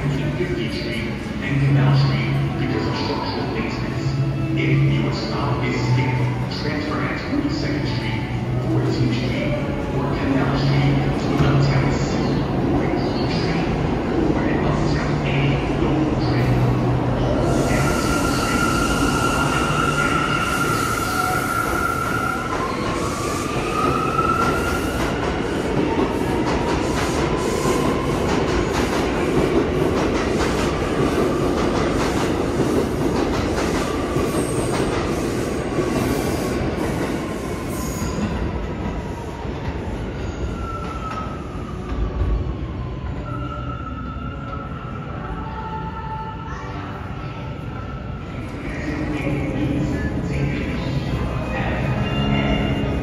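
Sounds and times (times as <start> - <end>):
subway train wheels clicking: 0.0 - 43.4.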